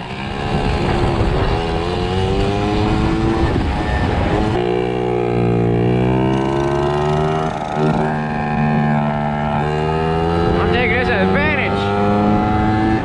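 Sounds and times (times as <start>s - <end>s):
small motorbike engine accelerating: 0.0s - 13.0s.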